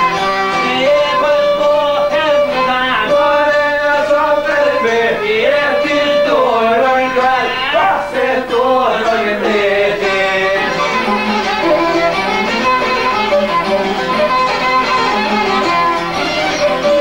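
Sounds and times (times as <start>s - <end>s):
instrumental accompaniment: 0.0s - 17.0s
violin folk melody: 0.0s - 17.0s.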